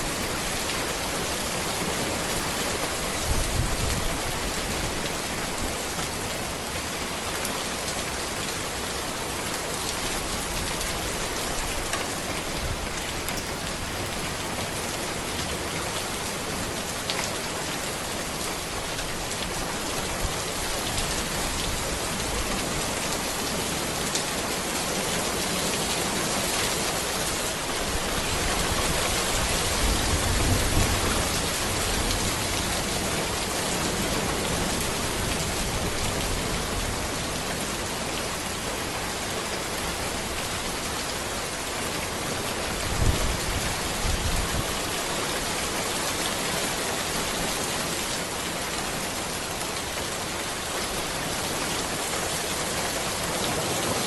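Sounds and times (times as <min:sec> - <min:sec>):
rain falling on a road: 0:00.0 - 0:54.0.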